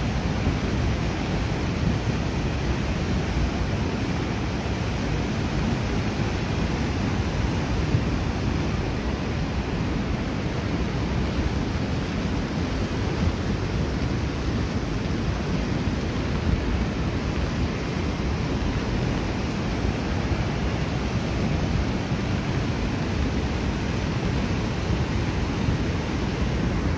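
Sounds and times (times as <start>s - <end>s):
flood river rushing: 0.0s - 26.9s.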